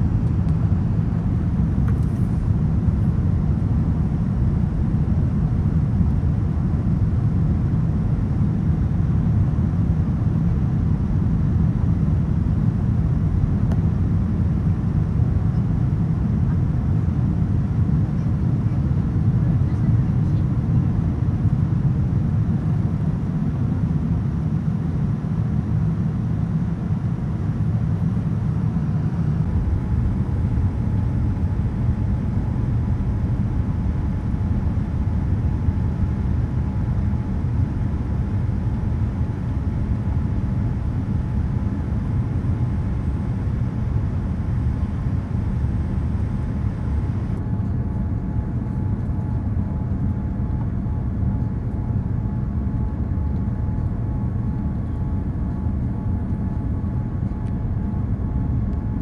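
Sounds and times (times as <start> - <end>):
jet engine rumble inside cabin: 0.0 - 59.0.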